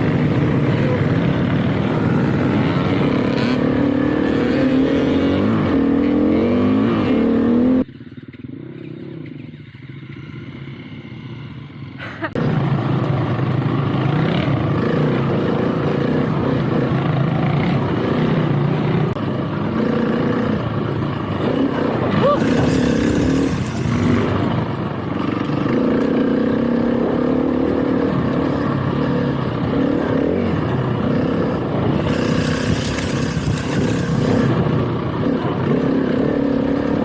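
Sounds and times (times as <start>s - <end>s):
dirt bike engine revving: 0.0s - 7.9s, 12.2s - 37.0s.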